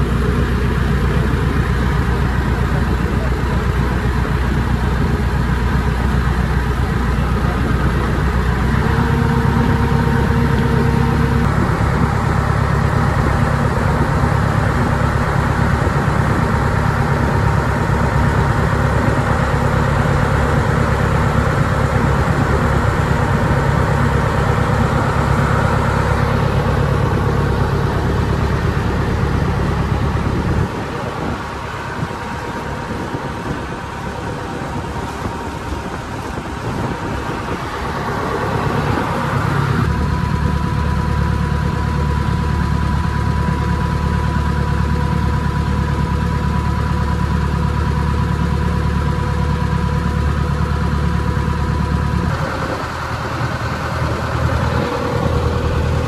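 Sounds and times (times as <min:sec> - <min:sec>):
boat engine drone: 0:00.0 - 0:56.0
water rushing along hull: 0:00.0 - 0:56.0.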